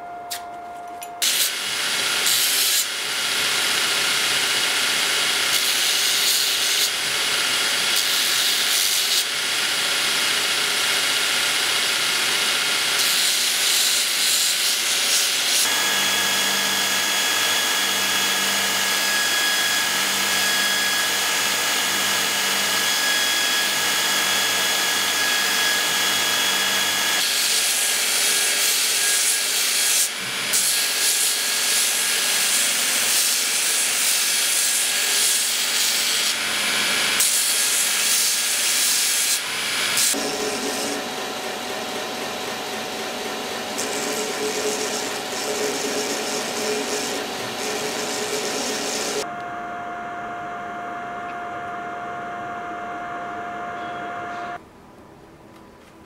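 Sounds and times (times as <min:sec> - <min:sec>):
belt grinder grinding steel: 0:01.2 - 0:41.2, 0:43.6 - 0:49.3.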